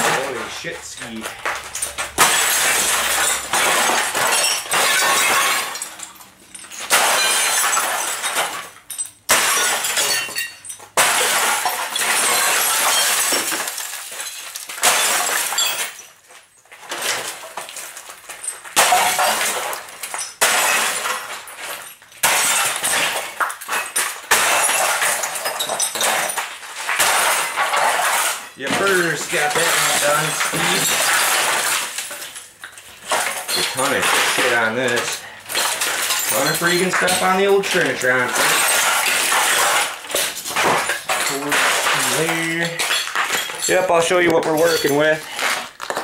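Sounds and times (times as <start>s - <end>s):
hammer smashing glass: 0.0s - 16.2s, 16.8s - 46.0s
shattering and falling glass: 0.0s - 46.0s.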